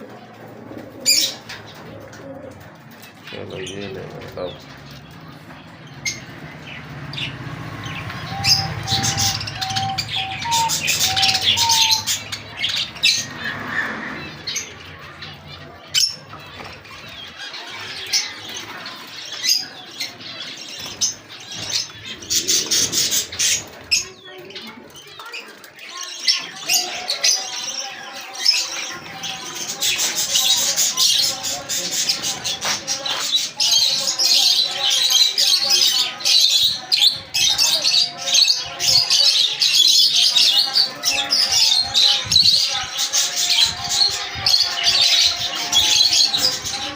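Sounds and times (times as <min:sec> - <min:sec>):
small birds chirping and squawking: 0:00.0 - 0:46.9.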